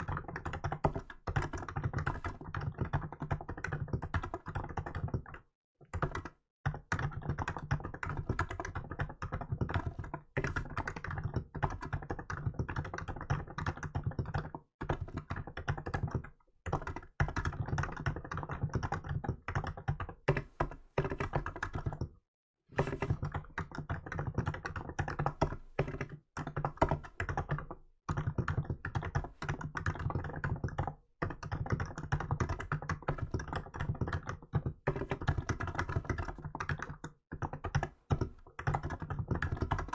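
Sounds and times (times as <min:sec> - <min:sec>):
typing on keyboard: 0:00.0 - 0:22.2, 0:22.8 - 0:39.9.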